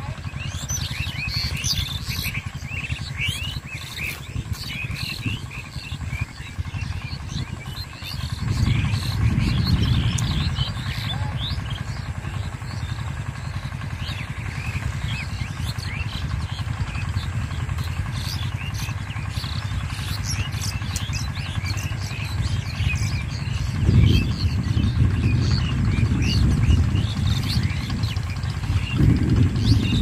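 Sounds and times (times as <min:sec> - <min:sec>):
small birds chirping: 0:00.0 - 0:30.0
steady low rumble: 0:00.0 - 0:30.0.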